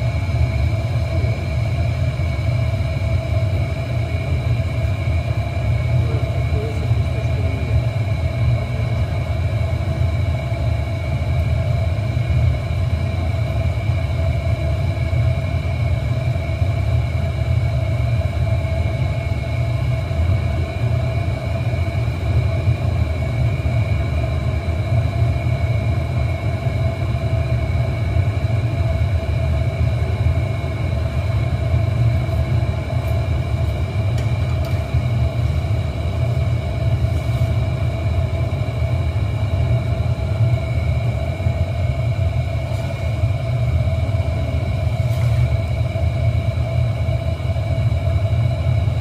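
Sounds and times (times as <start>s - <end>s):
furnace burners rumbling: 0.0s - 49.0s
steady tonal whine: 0.0s - 49.0s.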